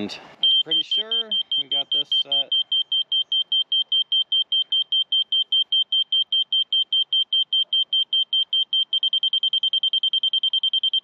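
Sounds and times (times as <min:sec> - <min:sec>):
rapid high beeping: 0:00.4 - 0:11.0.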